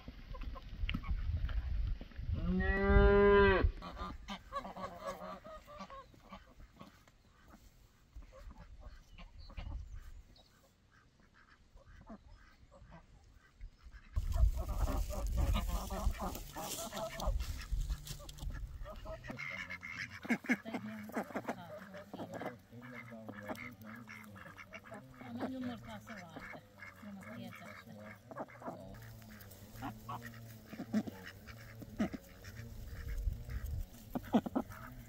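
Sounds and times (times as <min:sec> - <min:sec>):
geese honking: 0:03.8 - 0:35.0.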